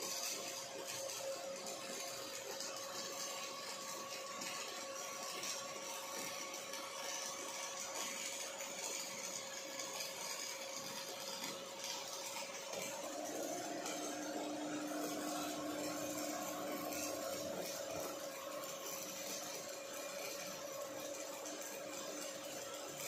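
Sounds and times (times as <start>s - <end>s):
welding arc hissing: 0.0s - 23.0s.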